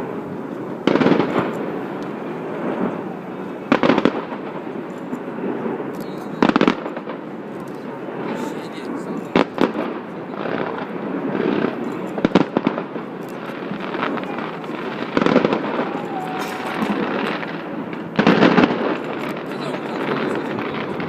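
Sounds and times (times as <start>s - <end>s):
fireworks booming: 0.0s - 21.0s
fireworks bursting and crackling: 0.0s - 21.0s.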